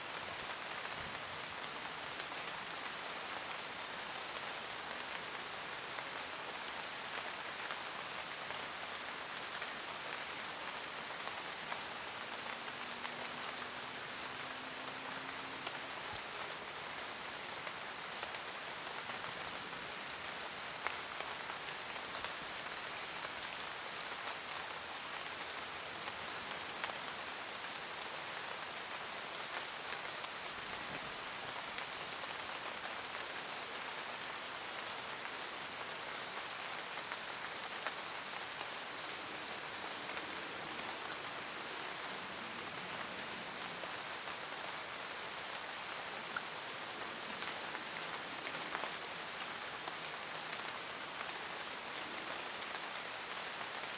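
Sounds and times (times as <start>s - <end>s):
rain falling in a forest: 0.0s - 53.9s.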